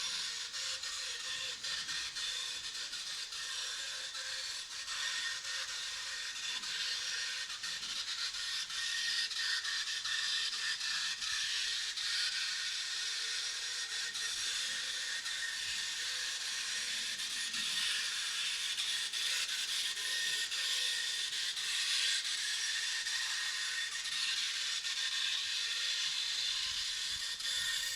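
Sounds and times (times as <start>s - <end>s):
model train whine and hiss: 0.0s - 27.9s.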